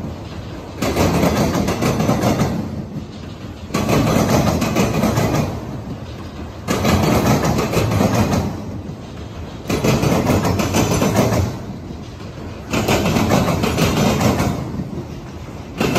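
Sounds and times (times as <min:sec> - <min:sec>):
train wheels clattering: 0:00.0 - 0:15.9.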